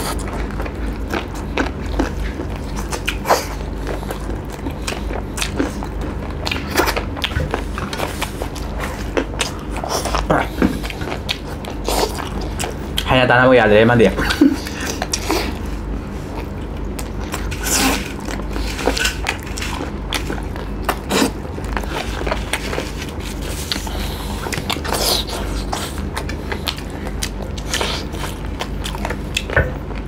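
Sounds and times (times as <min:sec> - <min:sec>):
chewing and lip smacks: 0:00.0 - 0:13.1, 0:16.3 - 0:30.0.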